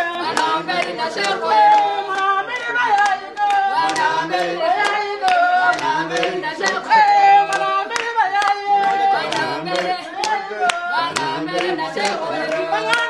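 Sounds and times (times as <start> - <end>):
hands clapping in a beat: 0.0 - 13.0
people singing: 0.0 - 13.0.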